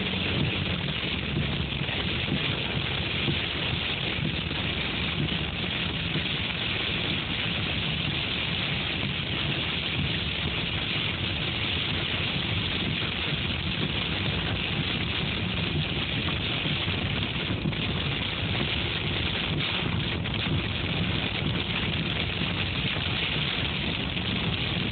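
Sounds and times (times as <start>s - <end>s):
hail and rain on car roof: 0.0s - 24.9s.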